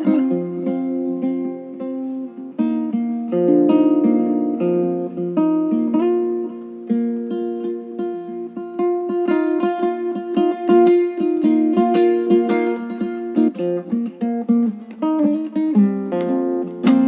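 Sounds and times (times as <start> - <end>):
plucked-string instrumental music: 0.0 - 17.0.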